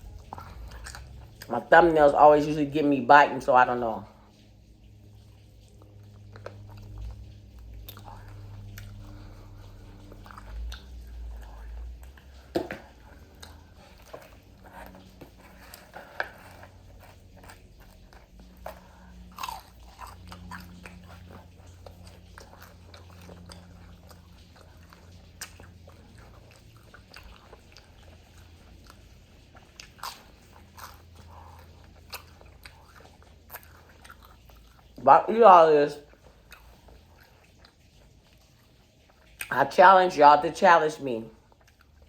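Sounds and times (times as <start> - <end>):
chewing crispy fried food: 0.0 - 42.0.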